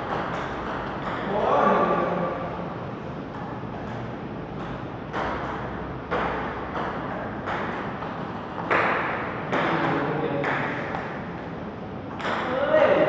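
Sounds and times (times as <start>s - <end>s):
table tennis ball hits: 0.0s - 2.0s, 3.3s - 11.3s, 12.1s - 13.0s.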